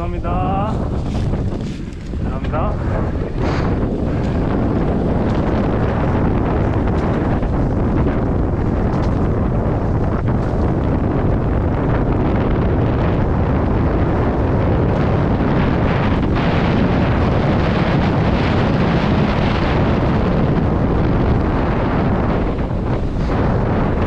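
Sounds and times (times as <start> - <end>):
low rumble: 0.0 - 24.0
wind buffeting microphone: 0.0 - 24.0.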